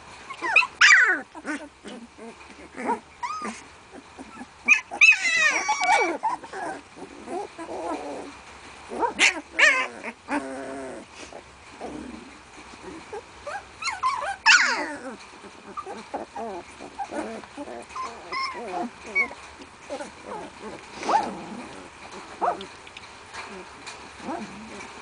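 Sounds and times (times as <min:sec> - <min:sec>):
puppies whimpering and squealing: 0:00.2 - 0:25.0
low pulsing puppy call: 0:00.3 - 0:11.3, 0:13.0 - 0:22.8.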